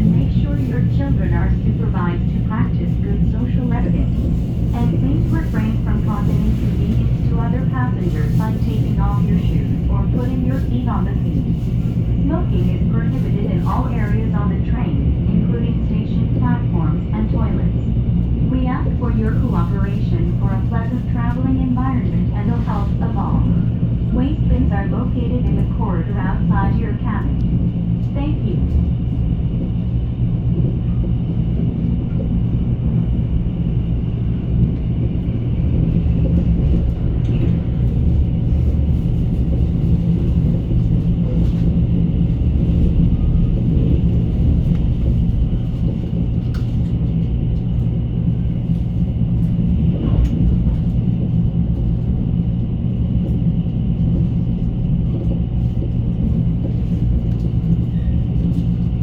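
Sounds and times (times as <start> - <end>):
train rumble from inside: 0.0 - 59.0.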